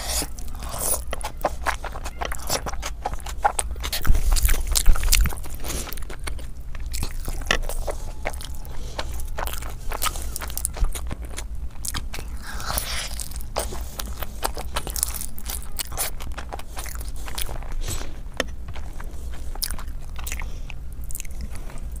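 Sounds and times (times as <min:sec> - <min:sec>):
wet chewing and mouth clicks: 0:00.0 - 0:22.0.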